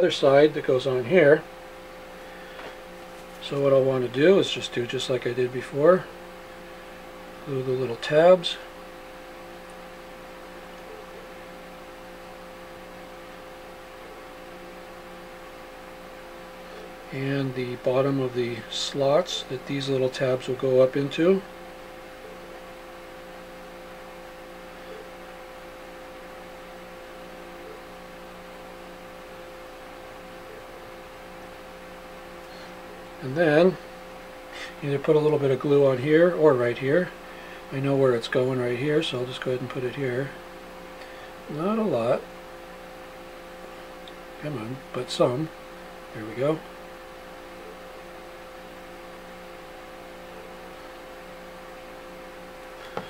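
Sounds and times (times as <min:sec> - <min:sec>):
electrical hum with tones: 0:00.0 - 0:53.0.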